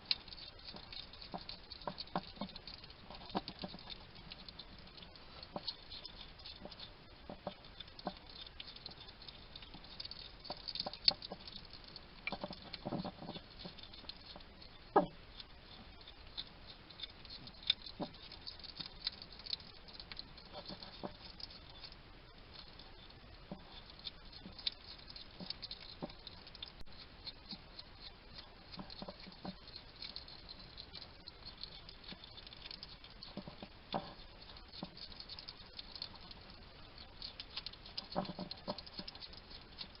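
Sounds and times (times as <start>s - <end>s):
hedgehog crunching while chewing: 0.0s - 40.0s
hedgehog snuffling: 0.0s - 40.0s.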